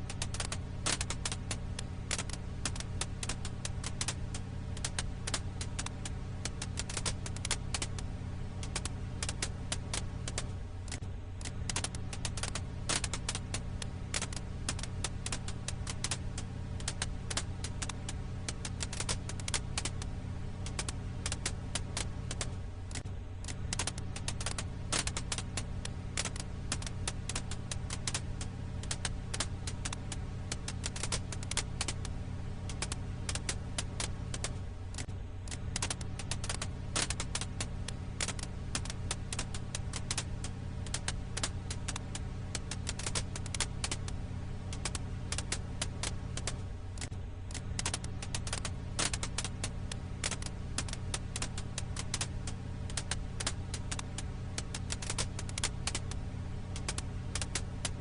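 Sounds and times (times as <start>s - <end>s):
campfire crackling: 0.0s - 58.0s
low hum: 0.0s - 58.0s.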